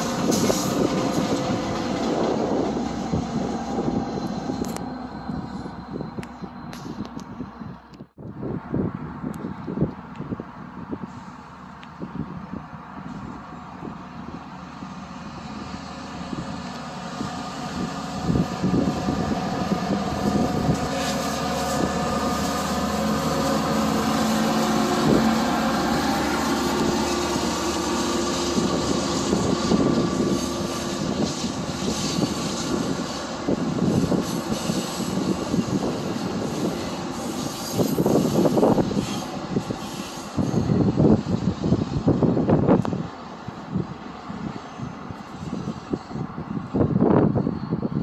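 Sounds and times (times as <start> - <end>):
train engine running: 0.0 - 8.2, 9.0 - 48.0
train wheels on rails: 0.0 - 8.4, 9.2 - 48.0.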